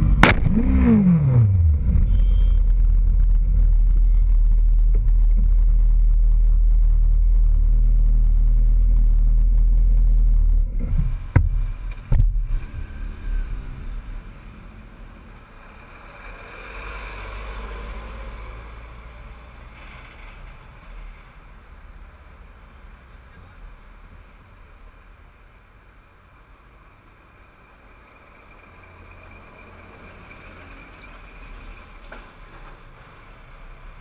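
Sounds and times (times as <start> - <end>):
quieter traffic noise: 0.0 - 34.0
vehicle engines and road noise: 0.0 - 34.0.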